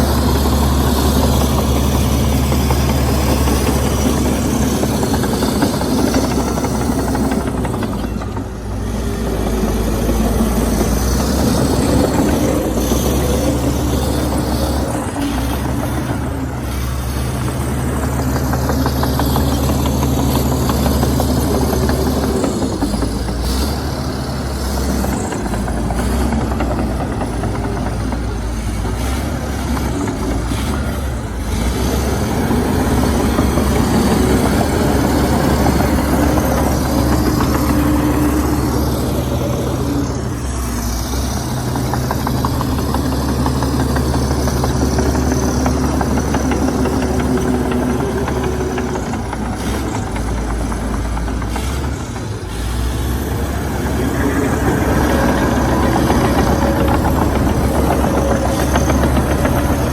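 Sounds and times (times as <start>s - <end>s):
heavy diesel engine under load: 0.0s - 59.9s.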